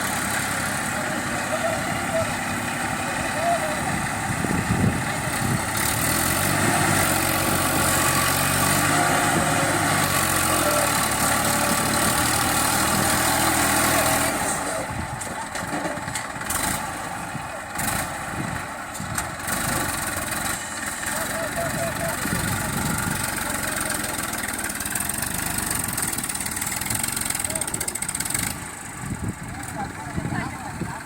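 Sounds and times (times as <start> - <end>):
diesel tractor engine running: 0.0 - 31.0.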